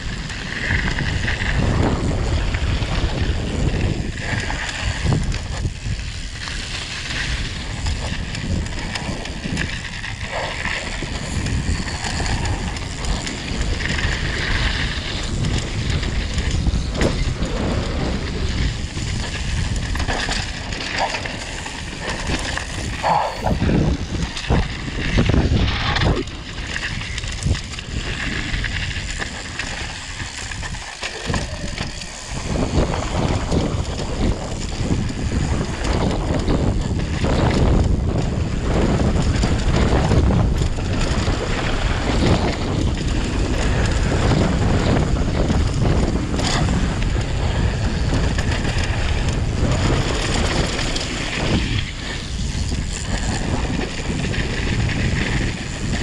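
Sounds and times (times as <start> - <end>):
bike tyres rumbling on rough ground: 0.0 - 56.0
wind rushing on microphone: 0.0 - 56.0.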